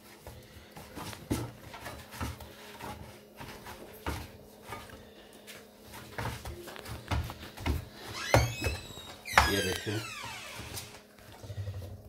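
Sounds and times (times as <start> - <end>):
dough kneaded in metal bowl: 0.0 - 9.7.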